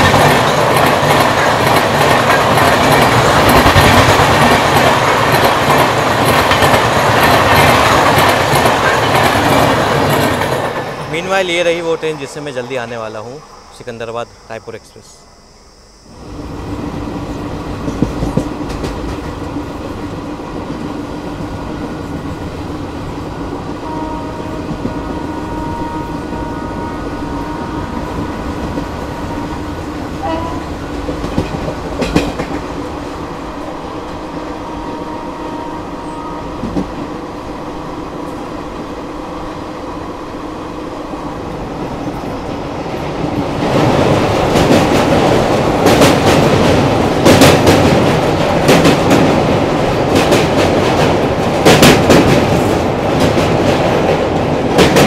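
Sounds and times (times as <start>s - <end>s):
train wheels rumbling and rattling: 0.0s - 13.4s, 16.2s - 55.0s.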